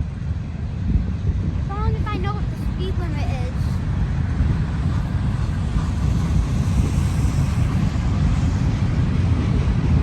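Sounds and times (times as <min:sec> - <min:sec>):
wind buffeting microphone: 0:00.0 - 0:10.0
freight train rumbling past: 0:01.5 - 0:10.0.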